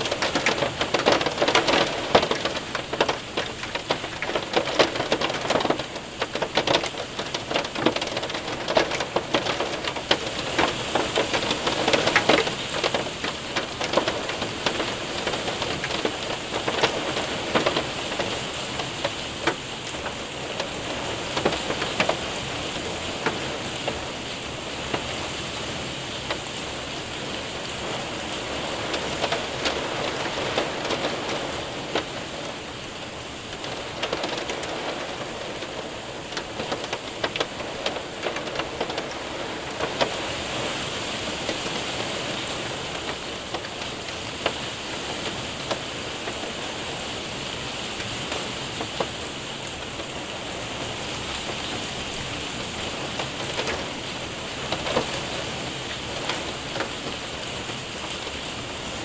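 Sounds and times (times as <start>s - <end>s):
hailstones ticking: 0.0s - 59.0s
rain on window and roof: 0.0s - 59.0s.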